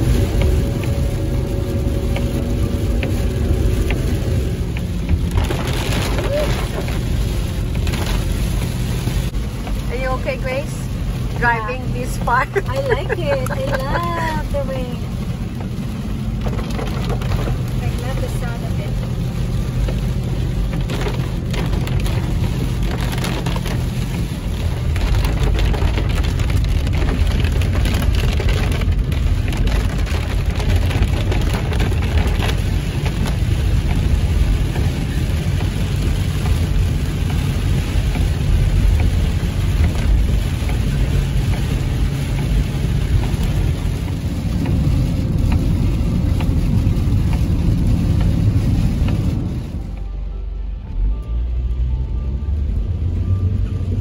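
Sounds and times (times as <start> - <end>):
heavy rain on car roof: 0.0 - 54.0
tyres rumbling on wet road: 0.0 - 54.0.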